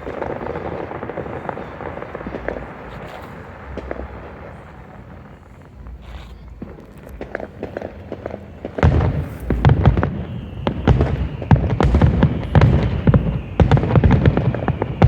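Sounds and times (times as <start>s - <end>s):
fireworks explosions and booms: 0.0s - 15.0s.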